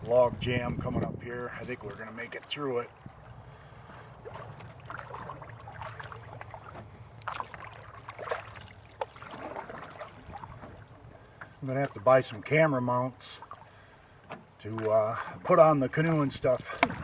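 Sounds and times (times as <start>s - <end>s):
water splashing and trickling: 0.0s - 17.0s
short splashes: 1.6s - 17.0s.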